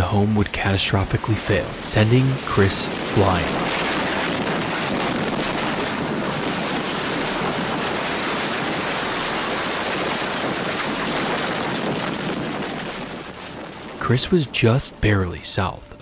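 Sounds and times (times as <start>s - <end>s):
tornado wind and debris rushing: 0.0s - 15.7s.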